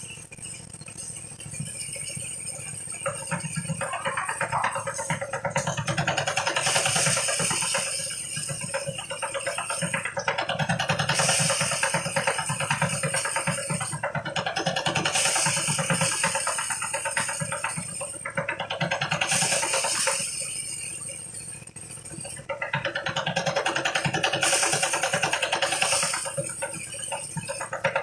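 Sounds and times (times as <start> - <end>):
rice thresher engine running: 3.0 - 20.7, 22.2 - 28.0.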